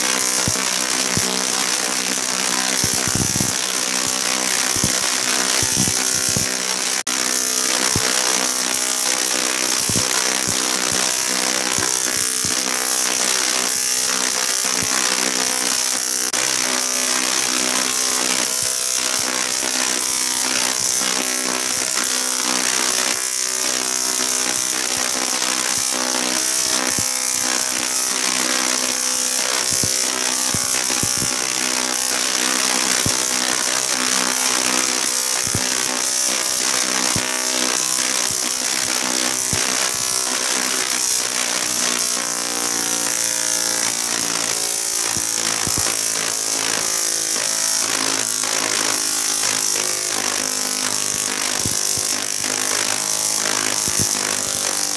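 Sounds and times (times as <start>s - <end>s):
tesla coil buzzing and crackling: 0.0s - 54.9s.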